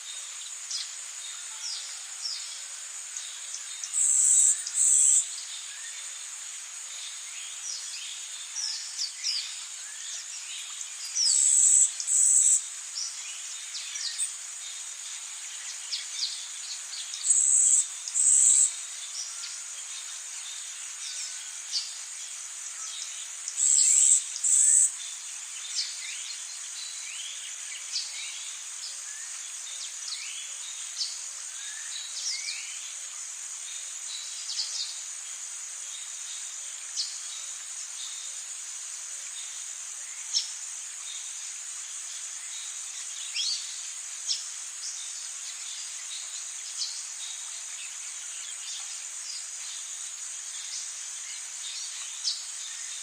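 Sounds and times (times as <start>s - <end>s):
high-pitched insect drone: 0.1s - 53.0s.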